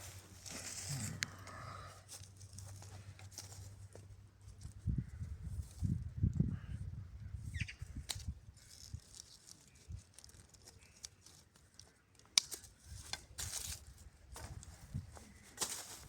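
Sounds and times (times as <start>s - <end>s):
rustling and crinkling: 0.0s - 6.0s, 8.0s - 16.0s.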